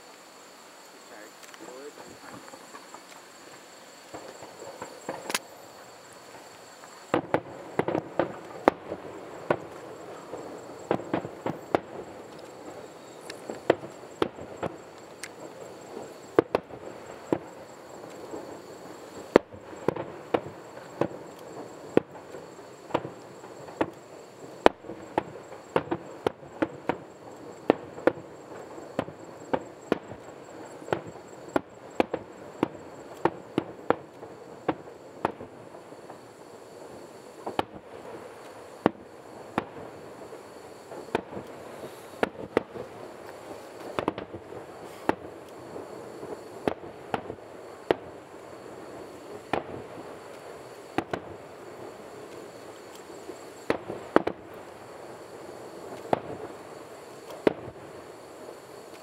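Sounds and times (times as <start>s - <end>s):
firework bursts banging: 0.0s - 59.0s.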